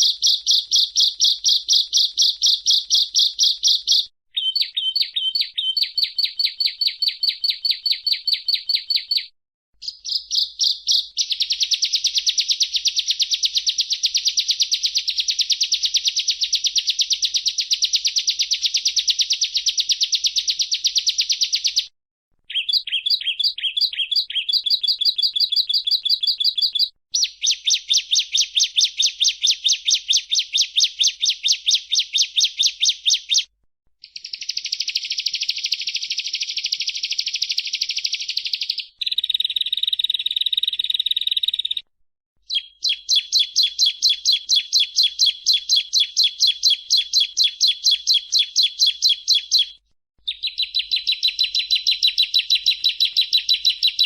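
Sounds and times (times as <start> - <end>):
bird high chirping song: 0.0 - 41.8, 42.4 - 54.0.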